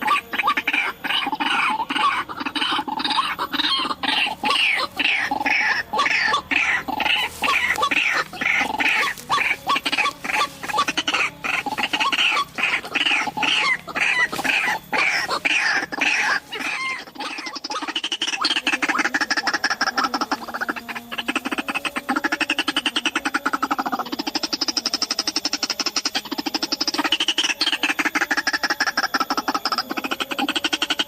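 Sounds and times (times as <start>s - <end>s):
waterhens croaking calls: 0.0s - 31.0s.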